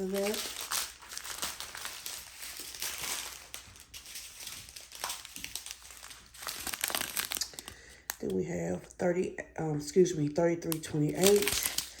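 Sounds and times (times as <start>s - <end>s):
plastic bags crinkling: 0.0s - 8.4s, 10.7s - 12.0s.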